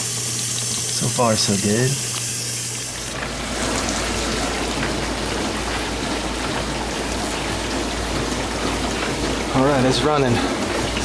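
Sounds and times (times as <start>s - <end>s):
pump motor humming: 0.0s - 11.0s
water spraying inside dishwasher: 0.0s - 11.0s.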